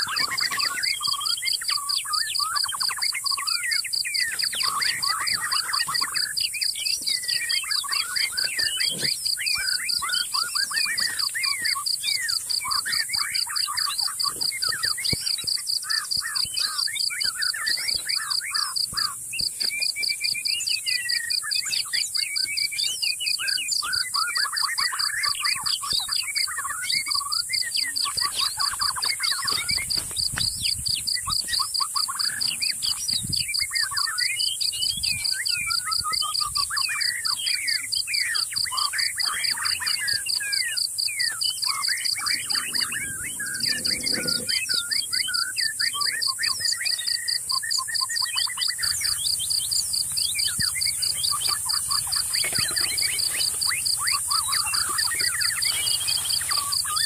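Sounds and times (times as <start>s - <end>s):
birds chirping and calling: 0.0s - 57.0s
insects pulsing: 0.0s - 57.0s.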